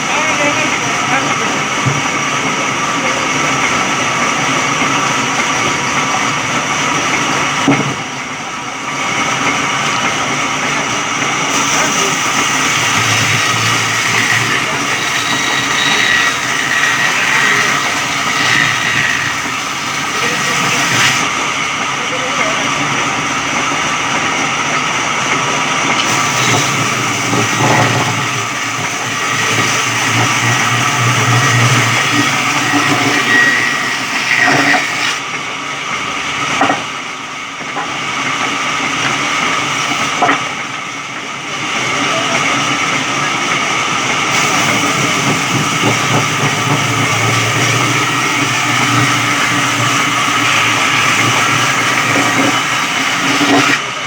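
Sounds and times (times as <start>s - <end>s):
electric sawmill cutting wood: 0.0s - 36.9s, 37.7s - 54.0s.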